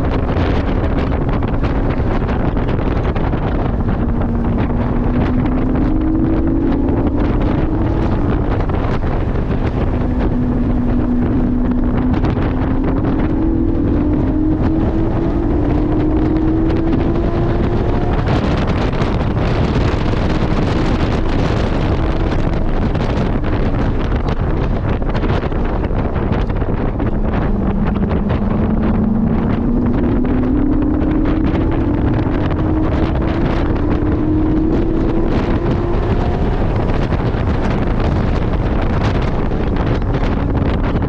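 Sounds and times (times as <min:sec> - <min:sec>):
car engine revving: 0:00.0 - 0:41.0
road rumble: 0:00.0 - 0:41.0
wind buffeting: 0:00.0 - 0:41.0.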